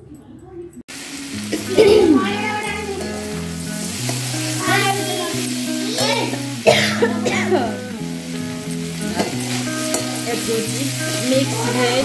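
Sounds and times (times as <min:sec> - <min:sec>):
vegetables sizzling in oil: 0:00.9 - 0:12.0.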